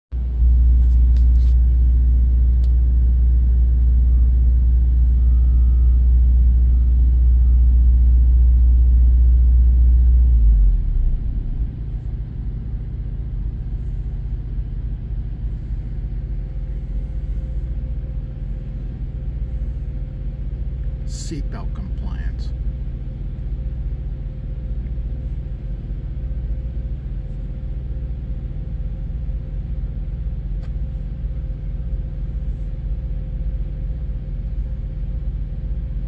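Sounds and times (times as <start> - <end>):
diesel engine idling: 0.2 - 36.0.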